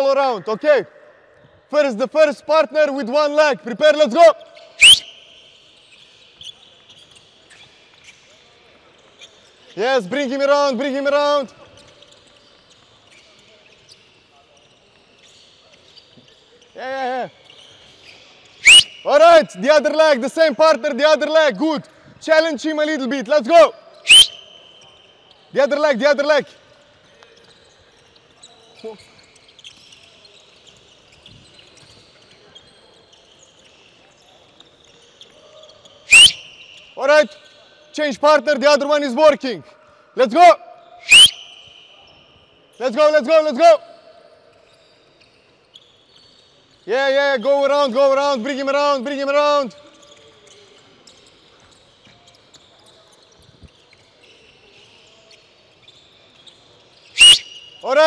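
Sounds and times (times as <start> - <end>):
sneaker squeaks: 3.2 - 20.2, 20.9 - 38.0, 39.6 - 58.0.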